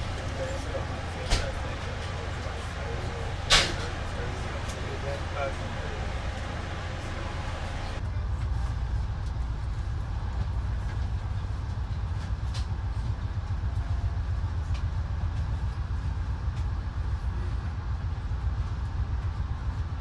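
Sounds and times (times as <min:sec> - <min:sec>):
train coach rumble: 0:00.0 - 0:20.0.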